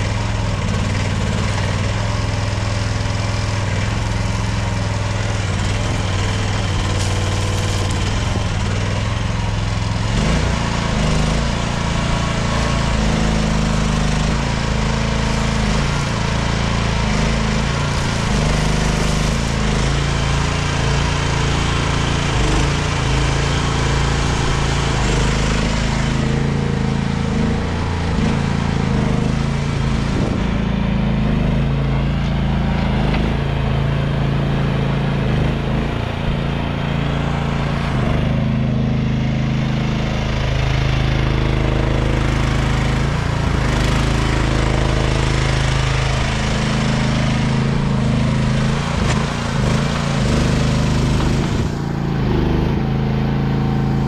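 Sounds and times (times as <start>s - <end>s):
excavator engine under hydraulic load: 0.0s - 54.0s.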